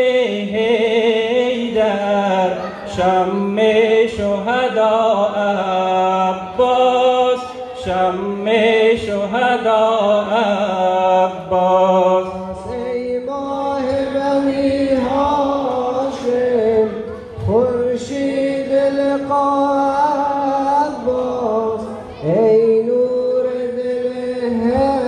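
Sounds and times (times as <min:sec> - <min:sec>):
voices chanting a lament: 0:00.0 - 0:25.0.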